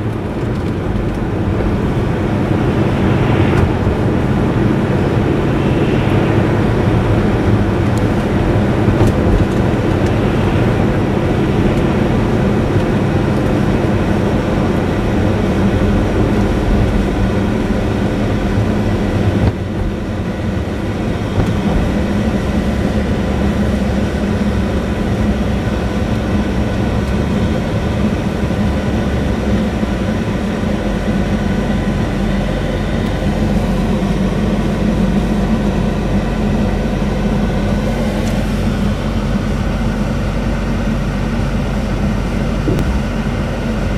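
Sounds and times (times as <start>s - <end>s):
car engine and tyre drone: 0.0s - 43.9s.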